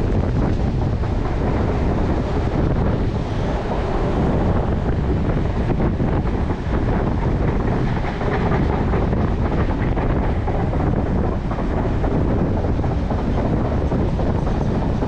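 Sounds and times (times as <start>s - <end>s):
train rumbling on track: 0.0s - 15.0s
wheels clacking: 0.0s - 15.0s
wind buffeting microphone: 0.0s - 15.0s.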